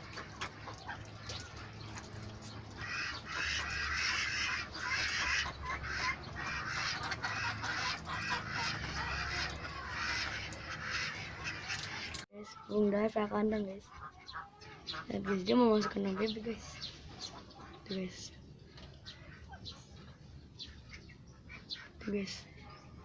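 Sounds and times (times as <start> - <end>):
ducks quacking: 0.0 - 12.2, 13.5 - 22.8.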